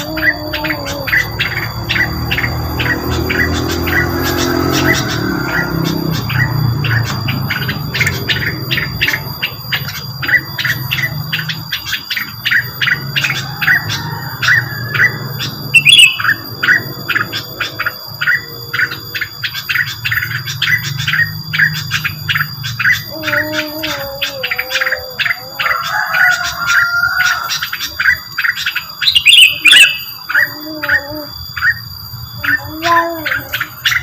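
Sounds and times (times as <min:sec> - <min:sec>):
high whine: 0:00.0 - 0:28.9
bird chirping: 0:00.0 - 0:34.0.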